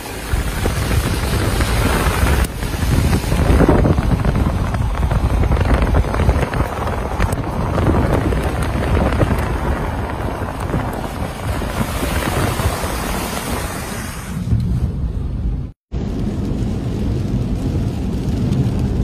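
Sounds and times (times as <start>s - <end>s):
loud rushing noise: 0.0s - 18.8s
wind buffeting microphone: 0.0s - 19.0s.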